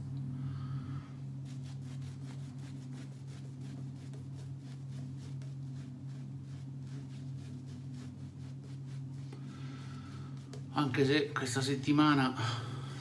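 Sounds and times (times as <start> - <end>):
steady low hum: 0.0 - 13.0
shaving brush swishing lather: 1.2 - 11.8.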